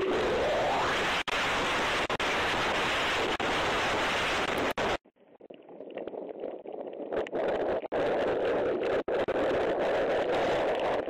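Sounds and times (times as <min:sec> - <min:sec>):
wind roaring across a microphone: 0:00.0 - 0:05.0, 0:07.0 - 0:11.0.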